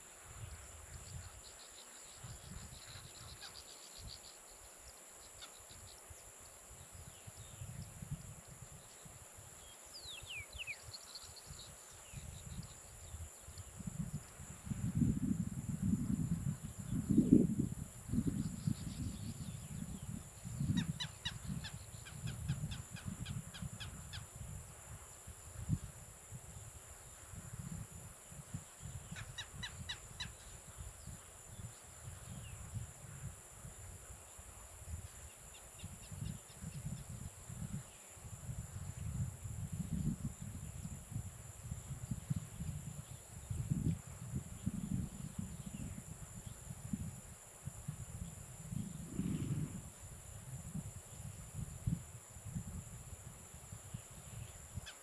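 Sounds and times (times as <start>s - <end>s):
high insect drone: 0.0s - 55.0s
wind buffeting microphone: 2.2s - 3.4s, 6.7s - 54.9s.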